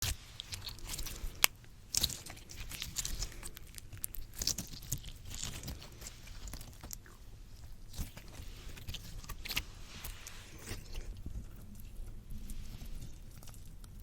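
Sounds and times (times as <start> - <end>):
slime squishing against microphone: 0.0 - 14.0.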